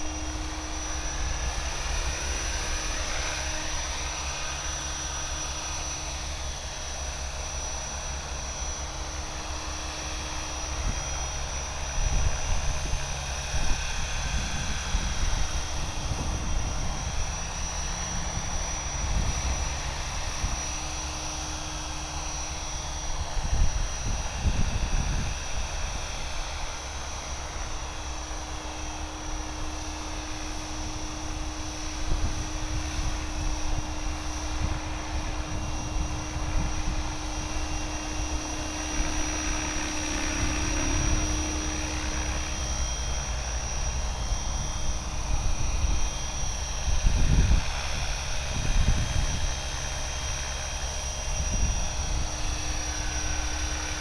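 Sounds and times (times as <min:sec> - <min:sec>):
electric motor high whine: 0:00.0 - 0:54.0
whoosh of spinning rotor blades: 0:00.0 - 0:54.0
wind rumbling on microphone: 0:09.8 - 0:54.0.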